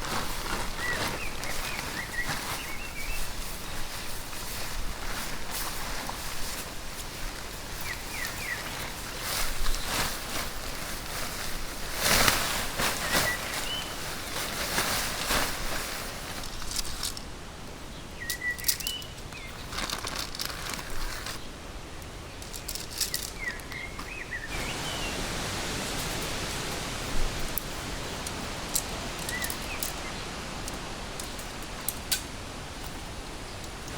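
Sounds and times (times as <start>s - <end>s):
rustling and handling noises: 0.0s - 33.9s
steady hiss: 0.0s - 33.9s.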